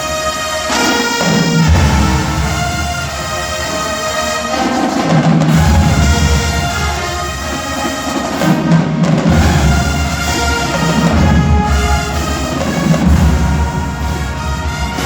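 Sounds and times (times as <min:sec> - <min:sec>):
brass section: 0:00.0 - 0:15.0
drums: 0:00.1 - 0:15.0.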